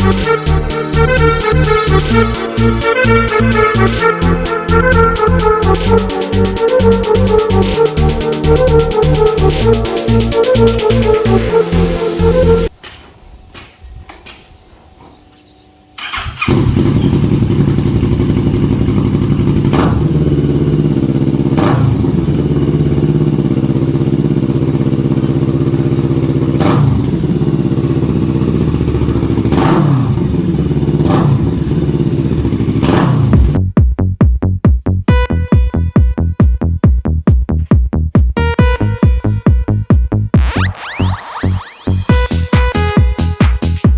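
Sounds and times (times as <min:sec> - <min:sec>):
motorcycle engine idling: 0:00.0 - 0:12.0, 0:16.0 - 0:34.0, 0:35.1 - 0:40.3
engine throttle blips: 0:00.0 - 0:12.8, 0:16.0 - 0:33.9, 0:35.1 - 0:43.8
motorcycle engine starting: 0:00.0 - 0:12.8, 0:15.4 - 0:33.8, 0:35.1 - 0:43.9.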